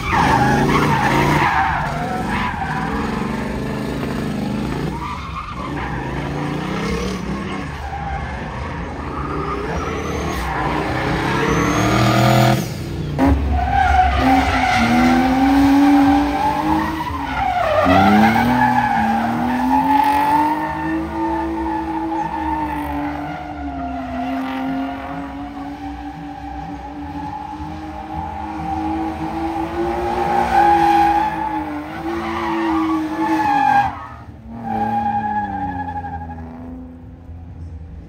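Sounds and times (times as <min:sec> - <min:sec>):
car engine at high revs: 0:00.0 - 0:35.2.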